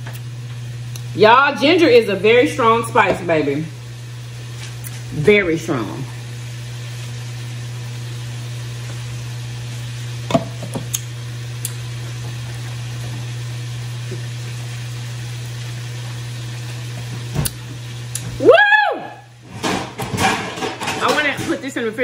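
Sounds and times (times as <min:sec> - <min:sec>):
low electric motor hum: 0:00.0 - 0:22.0.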